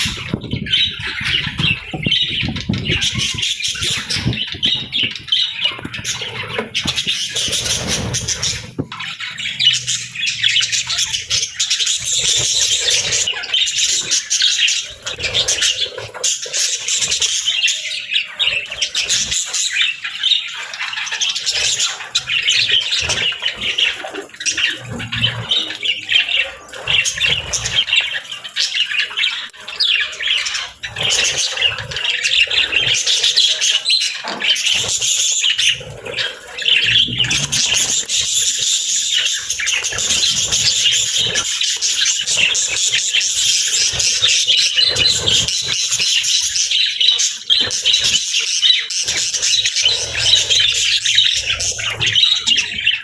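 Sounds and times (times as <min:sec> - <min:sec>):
budgies chirping and chattering: 0:00.0 - 0:53.0.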